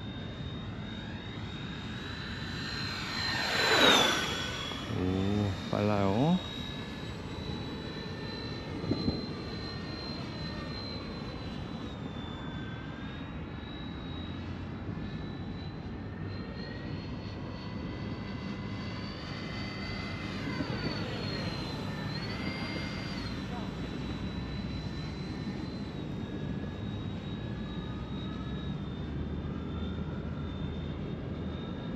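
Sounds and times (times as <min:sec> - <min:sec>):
model jet fans whining: 0:00.0 - 0:31.9.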